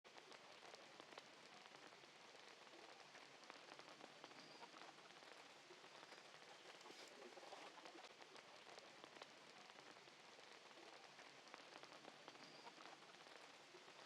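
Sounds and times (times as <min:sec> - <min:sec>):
raindrops ticking on surfaces: 0:00.0 - 0:14.0
steady rain falling: 0:00.0 - 0:14.0.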